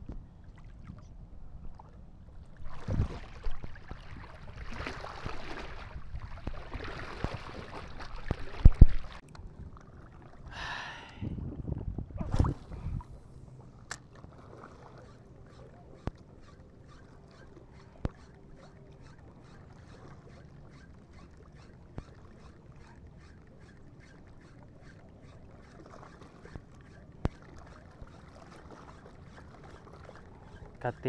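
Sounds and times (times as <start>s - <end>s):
water sloshing and splashing: 0.0s - 10.6s, 12.2s - 31.0s.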